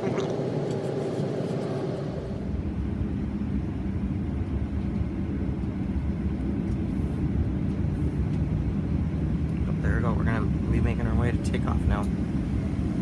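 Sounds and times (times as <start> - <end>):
airliner cabin noise: 0.0 - 13.0
deep low rumble: 0.0 - 13.0.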